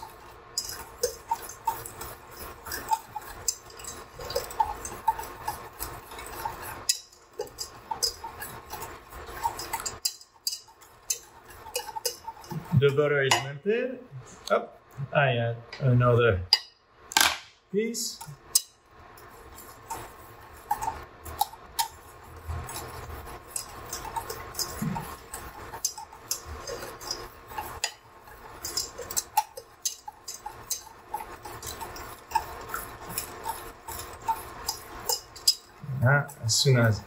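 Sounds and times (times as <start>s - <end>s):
whisk scraping metal pan: 0.0s - 13.5s, 18.0s - 37.0s.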